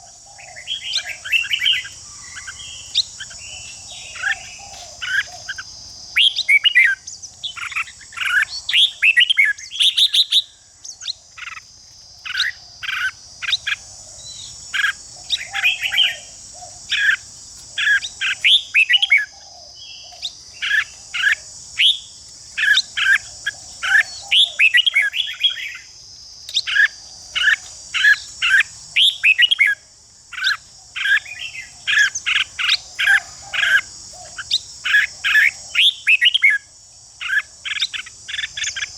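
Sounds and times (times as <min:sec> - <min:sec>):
bulbuls chirping: 0:00.0 - 0:36.6, 0:37.2 - 0:38.9.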